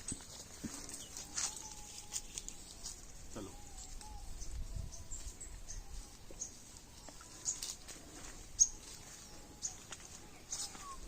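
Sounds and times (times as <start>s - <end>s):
birds chirping: 0.0s - 11.0s
faint outdoor background noise: 0.0s - 11.0s.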